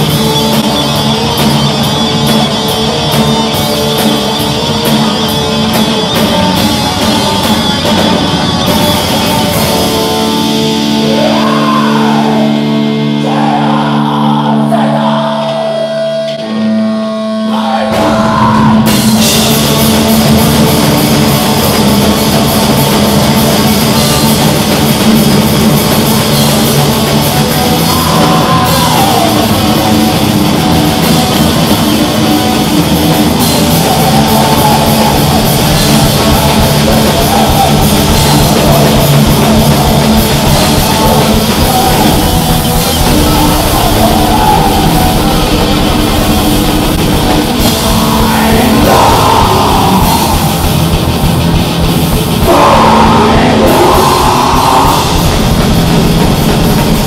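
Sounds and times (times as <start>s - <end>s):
bass guitar: 0.0s - 57.0s
distorted electric guitars: 0.0s - 57.0s
drum kit: 0.0s - 57.0s.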